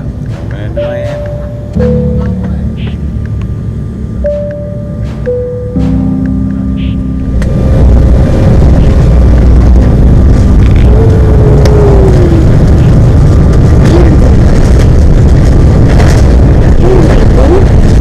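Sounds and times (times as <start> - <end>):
airliner cabin roar and rumble: 0.0 - 18.0.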